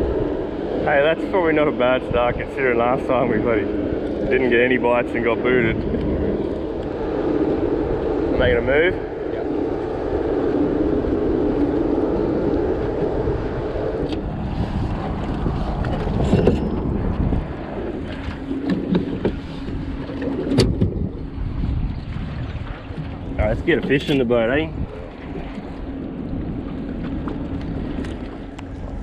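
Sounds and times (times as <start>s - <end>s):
outboard motor running: 0.0s - 29.0s
wind buffeting microphone: 0.0s - 29.0s.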